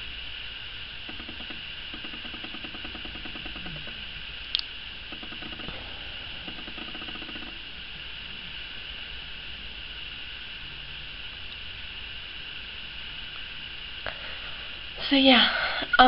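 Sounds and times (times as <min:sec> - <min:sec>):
faint low buzz: 0:00.0 - 0:16.0
steady background hiss: 0:00.0 - 0:16.0.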